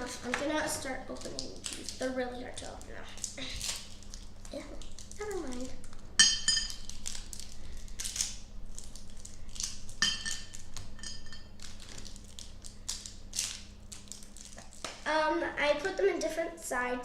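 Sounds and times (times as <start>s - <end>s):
candy wrappers crinkling and tearing: 0.1s - 6.0s, 6.7s - 10.9s, 11.5s - 15.1s.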